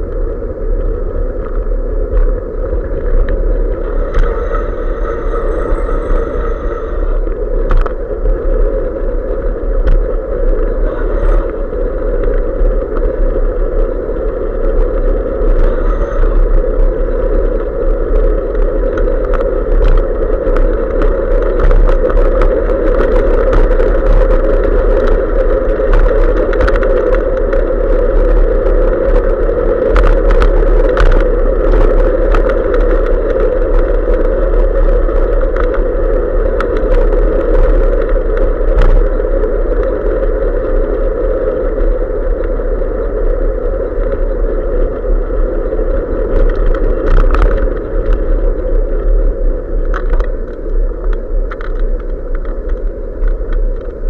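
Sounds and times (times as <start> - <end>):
road rumble: 0.0 - 54.0
wind: 0.0 - 54.0
small clicks and rattles: 9.3 - 43.1, 44.0 - 54.0.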